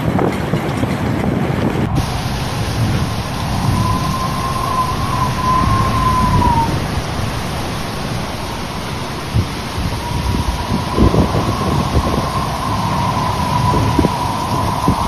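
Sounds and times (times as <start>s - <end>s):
strong wind and driving rain: 0.0s - 15.0s
thin high whistle: 2.0s - 15.0s.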